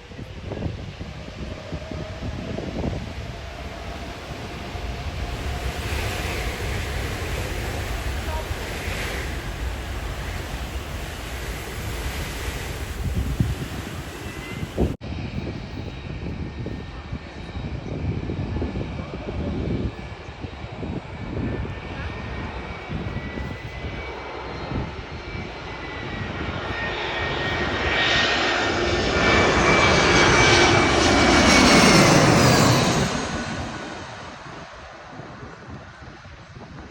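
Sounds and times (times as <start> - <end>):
jet airliner engines roaring: 0.0 - 36.9.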